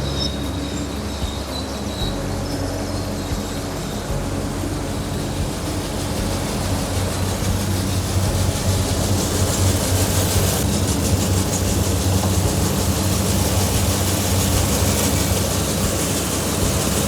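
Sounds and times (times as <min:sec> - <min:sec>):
fast dense rattle: 0:00.0 - 0:17.0
machine motor hum: 0:00.0 - 0:17.0.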